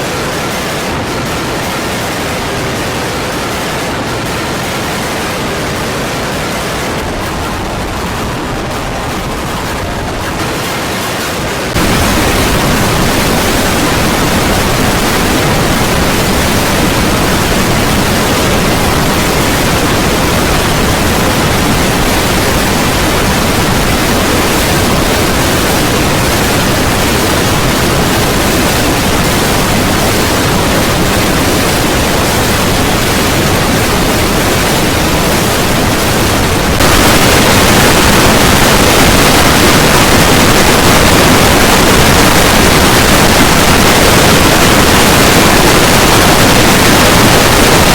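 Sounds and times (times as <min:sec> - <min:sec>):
harsh static noise: 0:00.0 - 0:47.9.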